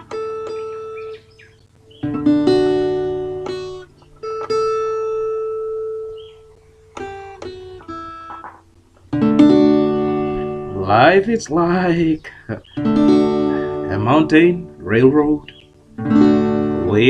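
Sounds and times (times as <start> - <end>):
guitar chords ringing out: 0.0 - 17.0.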